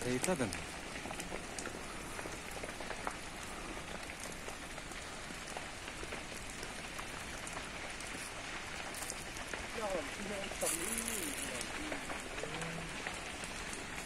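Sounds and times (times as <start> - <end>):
fire crackling and hissing: 0.0 - 14.0.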